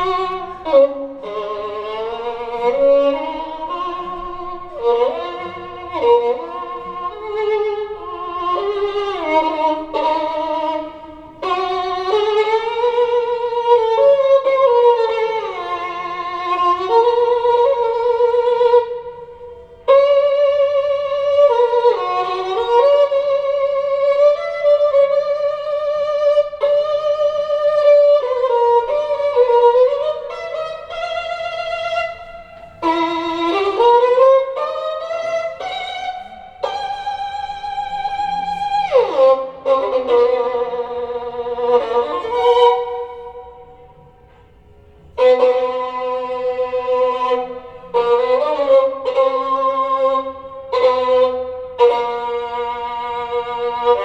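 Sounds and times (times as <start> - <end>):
solo violin music: 0.0 - 54.0.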